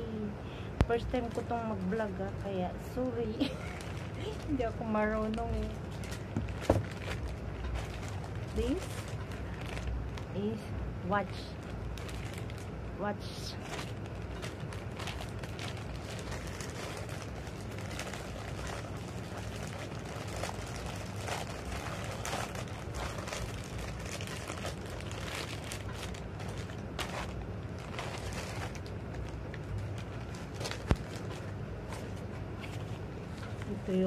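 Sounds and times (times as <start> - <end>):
steady low hum: 0.0 - 34.0
packaging rustling and crinkling: 0.8 - 34.0.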